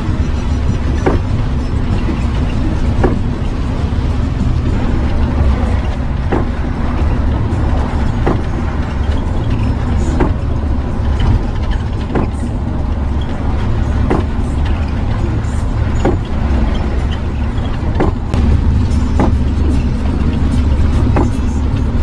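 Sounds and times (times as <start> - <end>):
engine droning: 0.0 - 22.0
tyres on a wet road: 0.0 - 22.0
windshield wiper sweeping: 0.0 - 22.0.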